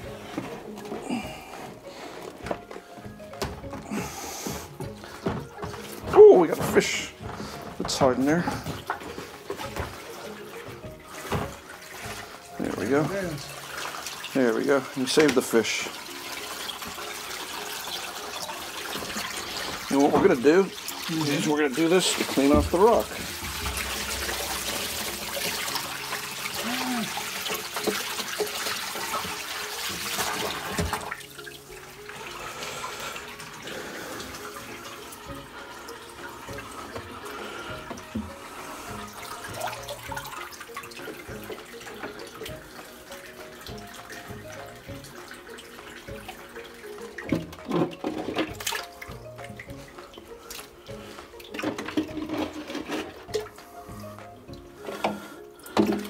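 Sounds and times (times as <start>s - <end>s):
background music: 0.0s - 56.0s
water sloshing and dripping: 0.0s - 56.0s
hose water splashing on rock: 3.4s - 56.0s.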